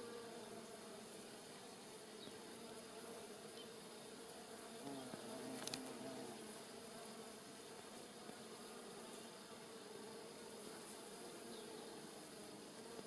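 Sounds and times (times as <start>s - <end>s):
bumblebee buzzing: 0.0s - 13.0s.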